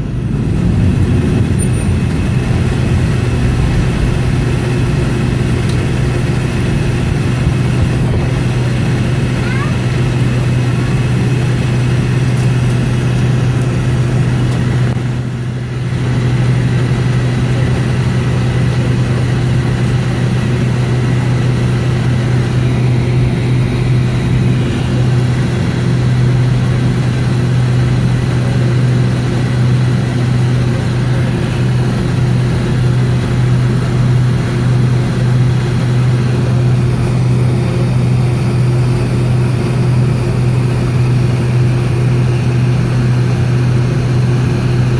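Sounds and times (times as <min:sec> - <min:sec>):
jet engine cabin drone: 0:00.0 - 0:44.9.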